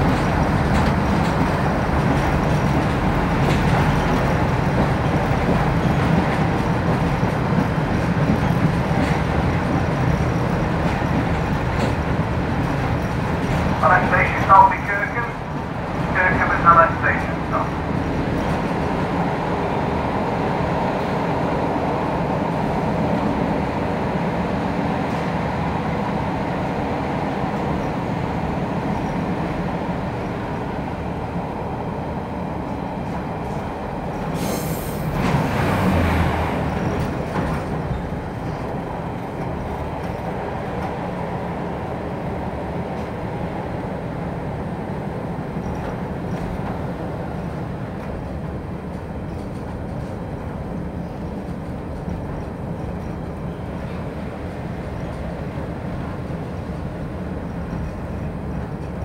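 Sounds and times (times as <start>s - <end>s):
wheel-on-rail rumble: 0.0s - 25.8s, 26.8s - 59.0s.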